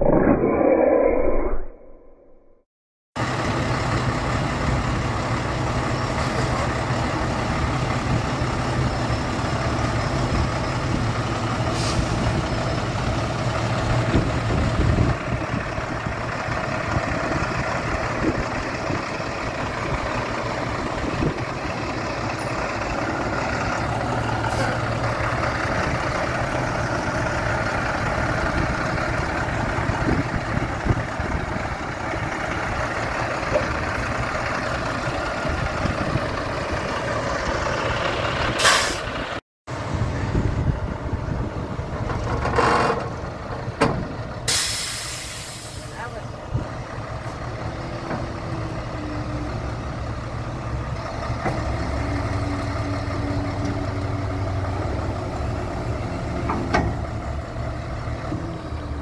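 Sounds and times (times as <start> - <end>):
diesel truck engine running: 3.2 - 59.0.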